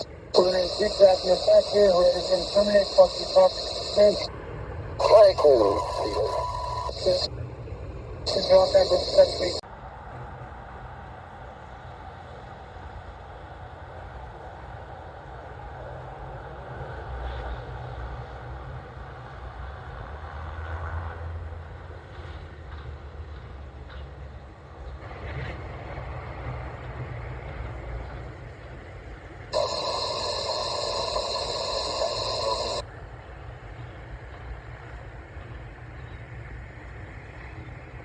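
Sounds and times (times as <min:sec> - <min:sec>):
aircraft engines droning: 0:00.0 - 0:38.0.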